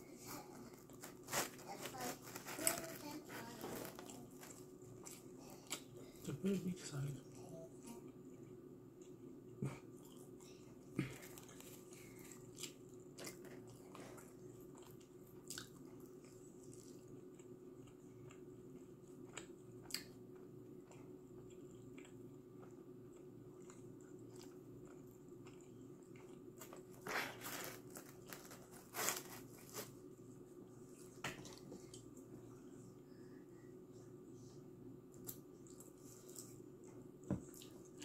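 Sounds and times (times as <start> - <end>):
chewing pizza crust: 0.0 - 33.1, 35.0 - 38.0
steady low hum: 0.0 - 38.0.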